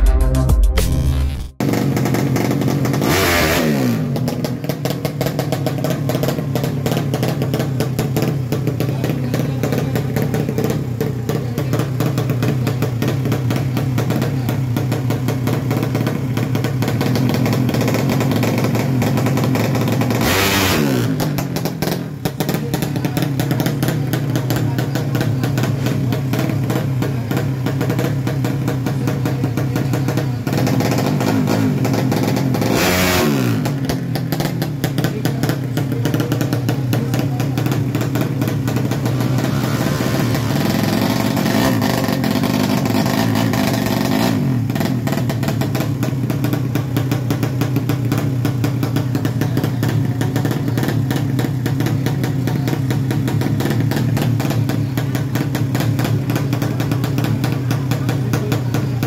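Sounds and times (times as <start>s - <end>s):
motorcycle engine idling and revving: 1.4s - 59.0s.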